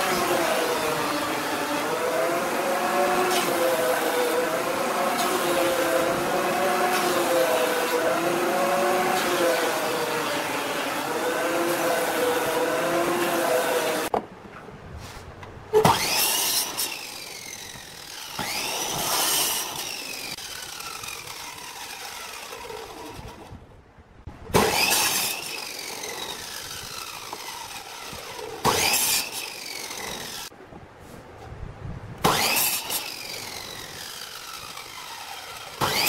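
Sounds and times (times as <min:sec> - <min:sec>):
miter saw cutting wood: 0:00.0 - 0:14.1, 0:15.7 - 0:23.6, 0:24.5 - 0:30.5, 0:32.2 - 0:36.0
thickness planer whining: 0:00.0 - 0:14.7, 0:15.7 - 0:30.6, 0:32.2 - 0:36.0.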